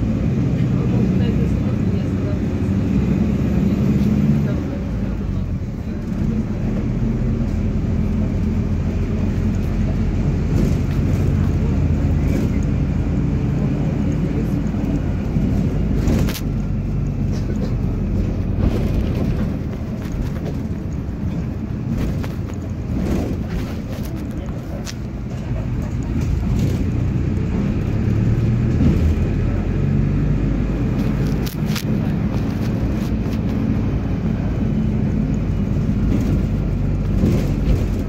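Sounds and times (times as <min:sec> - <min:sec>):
bus engine and road drone: 0:00.0 - 0:38.0.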